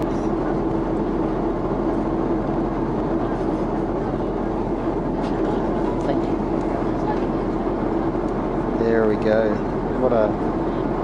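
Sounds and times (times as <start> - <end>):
airliner cabin engine and airflow rush: 0.0 - 11.0
constant low hum: 0.0 - 11.0.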